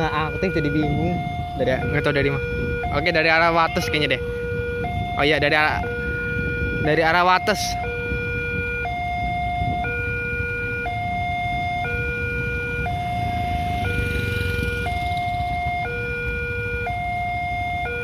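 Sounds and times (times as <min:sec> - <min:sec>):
two-tone crossing alarm: 0:00.0 - 0:18.0.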